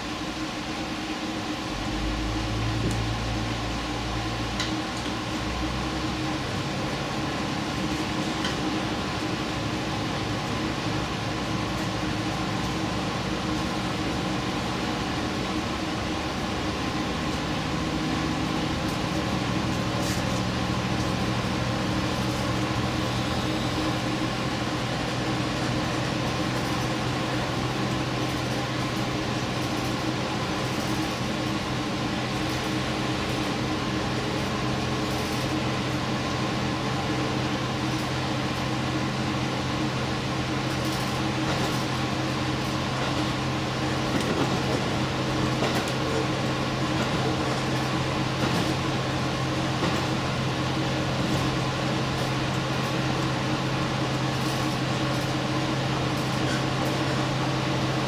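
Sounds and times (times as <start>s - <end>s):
train engine and rolling drone: 0.0s - 58.0s.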